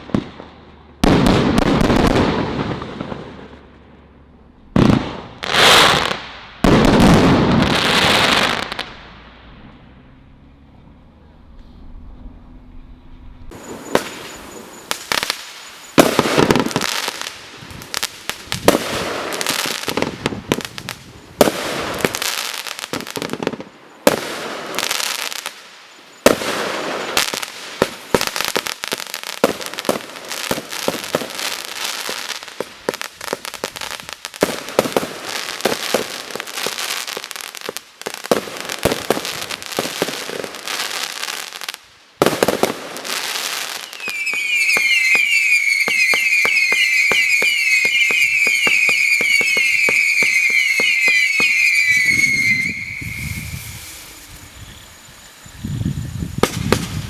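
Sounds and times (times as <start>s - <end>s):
fireworks bangs and crackle: 0.0s - 9.8s, 13.5s - 57.0s.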